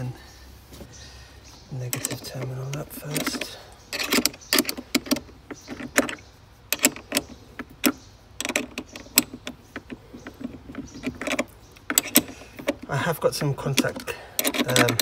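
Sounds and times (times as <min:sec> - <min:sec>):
spanner clicking on metal terminal: 0:01.8 - 0:15.0.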